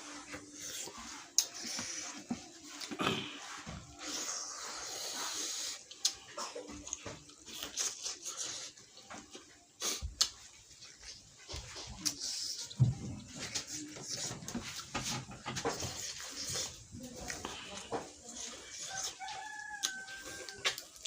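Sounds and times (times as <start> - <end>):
wet slurping and chewing: 0.1 - 12.8, 15.6 - 21.0.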